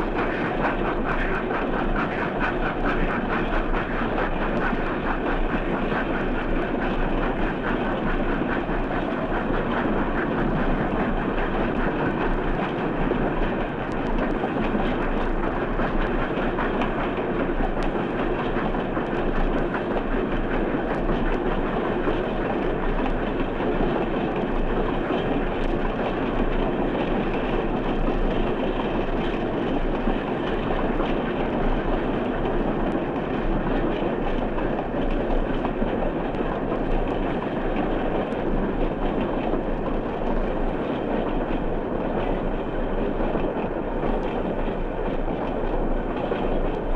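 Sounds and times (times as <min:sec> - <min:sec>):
train rumbling on rails: 0:00.0 - 0:46.9.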